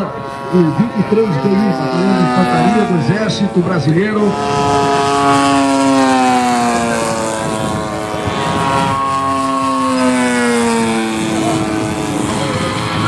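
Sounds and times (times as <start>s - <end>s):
model plane motor droning: 0.0s - 13.0s.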